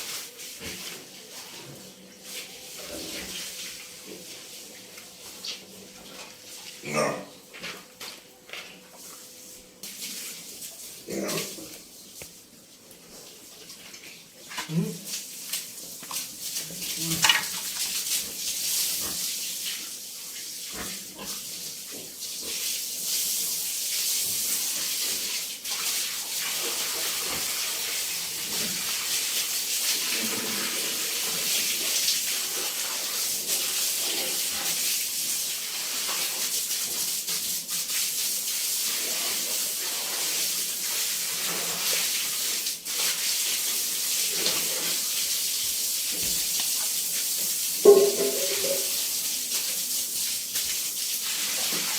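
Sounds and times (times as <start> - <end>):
hose water spraying: 0.0 - 6.8, 9.0 - 12.5, 14.8 - 51.9.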